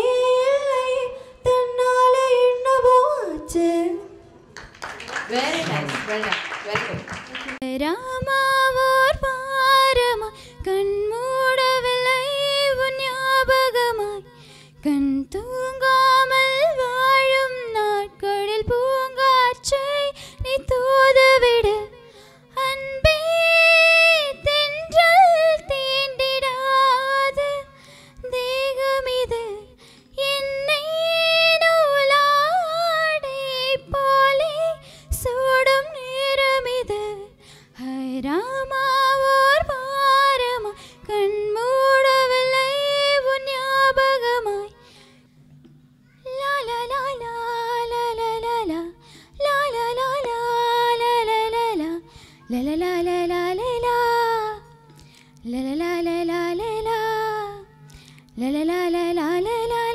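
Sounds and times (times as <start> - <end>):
girl singing into microphone: 0.0 - 4.3, 7.6 - 59.9.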